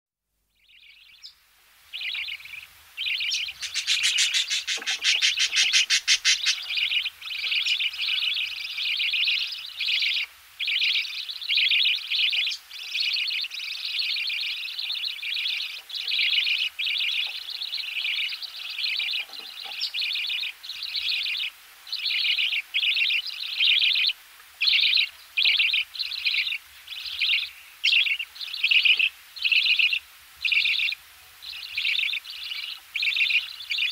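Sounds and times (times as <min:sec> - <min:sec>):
chicks giving begging calls: 0:01.9 - 0:33.9.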